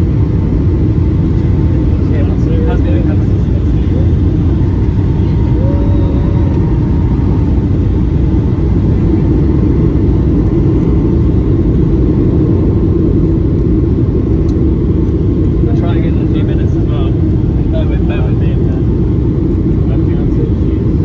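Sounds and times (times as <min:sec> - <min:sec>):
jet engine and airflow noise: 0:00.0 - 0:21.0.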